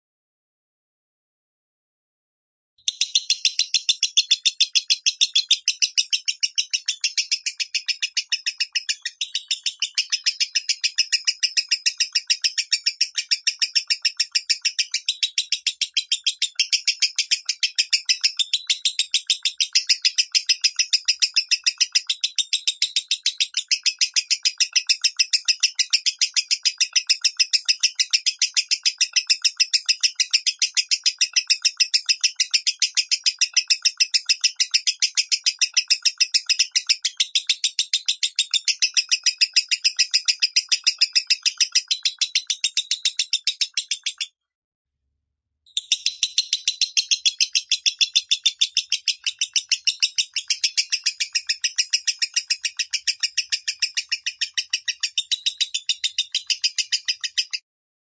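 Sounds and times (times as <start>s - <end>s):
lovebird shrill chirps: 2.9s - 44.3s, 45.7s - 57.6s.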